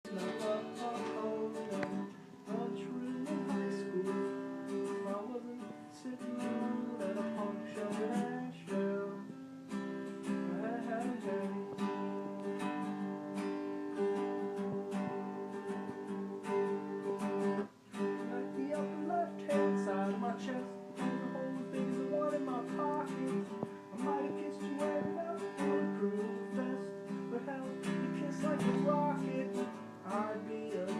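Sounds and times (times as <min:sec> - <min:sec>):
acoustic guitar strumming: 0:00.1 - 0:30.9.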